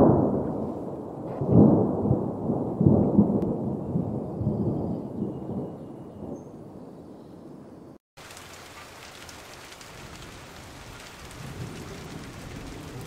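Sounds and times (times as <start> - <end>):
thunder rumbling: 0.0 - 6.9, 8.2 - 13.0.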